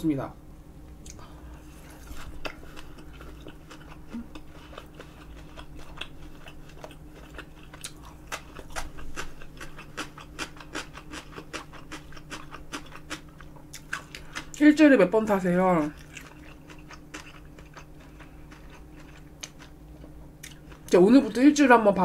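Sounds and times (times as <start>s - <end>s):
faint steady hum: 0.0s - 22.0s
person chewing crisp food: 1.0s - 14.6s, 15.9s - 21.0s.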